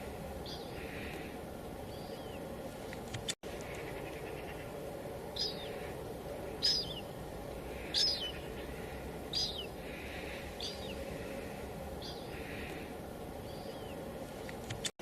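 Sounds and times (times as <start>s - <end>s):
bird calling: 0.0s - 14.9s
light drizzle hiss: 0.0s - 15.0s.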